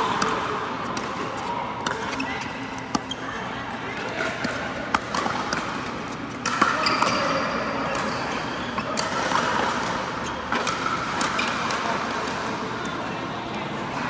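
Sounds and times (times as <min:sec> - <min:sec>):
background hubbub: 0:00.0 - 0:14.0.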